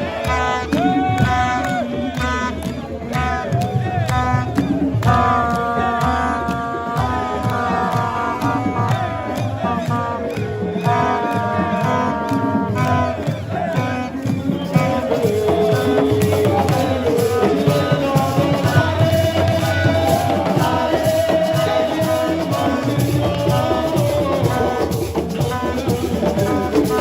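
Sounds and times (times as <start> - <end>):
rhythmic percussion: 0.0 - 27.0
singing: 0.0 - 27.0.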